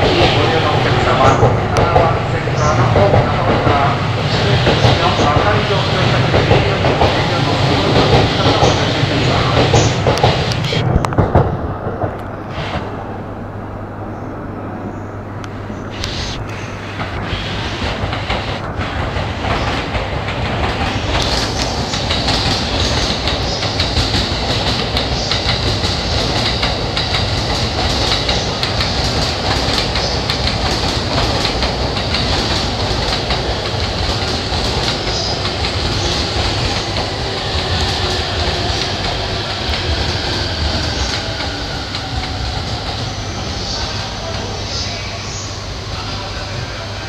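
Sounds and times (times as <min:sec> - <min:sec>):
train wheels clicking over joints: 0:00.0 - 0:12.8, 0:17.0 - 0:44.6
train rumble: 0:00.0 - 0:47.0.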